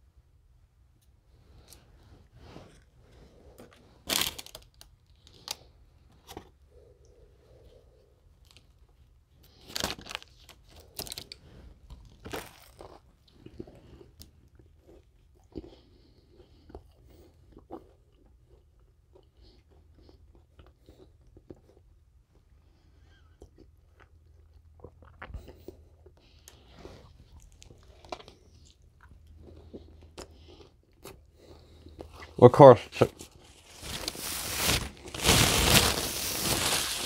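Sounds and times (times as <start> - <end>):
chewing with small crunches: 1.0 - 32.4.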